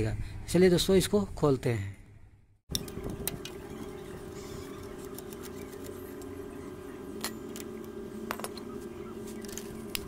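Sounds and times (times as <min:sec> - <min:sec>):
steady low hum: 0:01.9 - 0:10.0.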